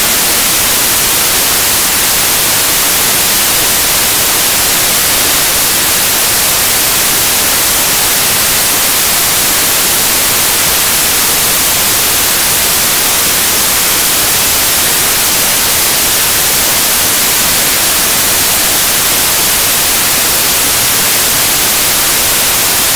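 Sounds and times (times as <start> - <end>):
static hiss: 0.0 - 22.9.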